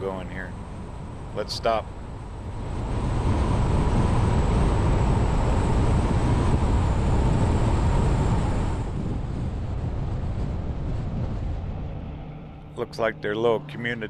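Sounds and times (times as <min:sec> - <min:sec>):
faint steady whine: 0:00.0 - 0:14.0
road and engine rumble: 0:00.0 - 0:14.0.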